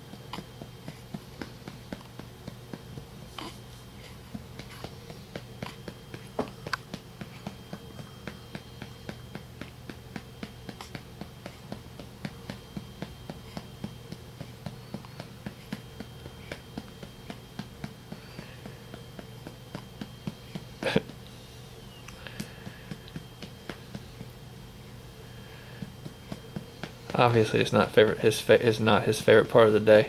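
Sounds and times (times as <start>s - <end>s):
patting on baby's back: 0.0s - 30.0s.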